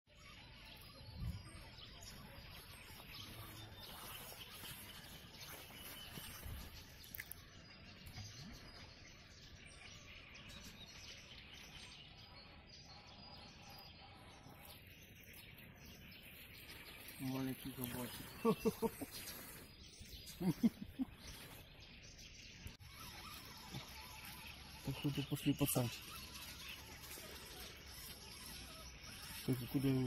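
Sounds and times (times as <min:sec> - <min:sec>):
faint birdsong and chirping: 0:00.1 - 0:30.0.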